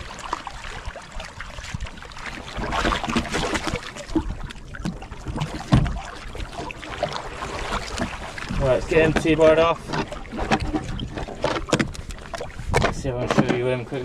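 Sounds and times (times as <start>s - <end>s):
water noise: 0.0s - 14.0s
wind noise: 0.0s - 14.0s
knocks and scuffs on kayak: 1.6s - 13.8s.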